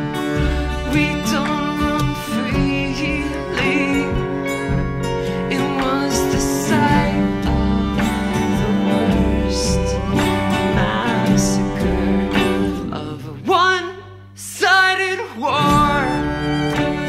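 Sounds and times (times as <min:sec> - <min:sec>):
string accompaniment: 0:00.0 - 0:13.9, 0:15.4 - 0:17.0
person singing: 0:00.0 - 0:17.0.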